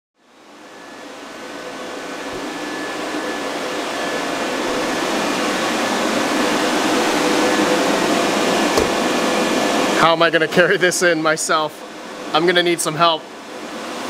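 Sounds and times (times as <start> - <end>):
machine whirring with hum: 0.2 - 12.5.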